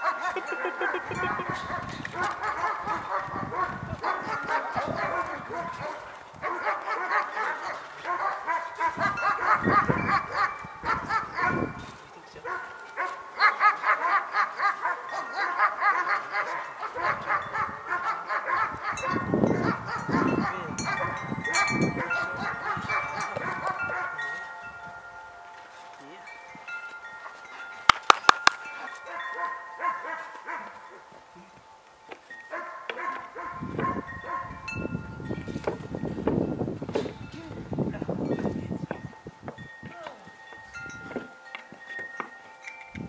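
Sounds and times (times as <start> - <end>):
puppies yipping and barking: 0.0 - 31.3, 32.4 - 36.0.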